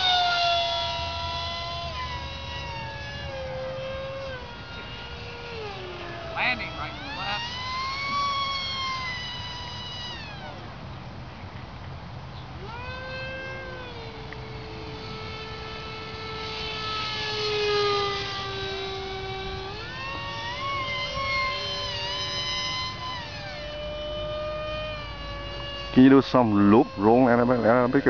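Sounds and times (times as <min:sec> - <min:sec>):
model jet engine whine: 0:00.0 - 0:28.0.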